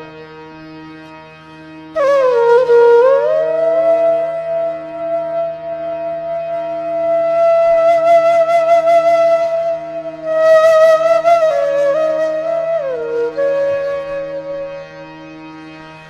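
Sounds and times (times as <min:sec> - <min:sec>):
flute holding long note: 0:01.8 - 0:16.0.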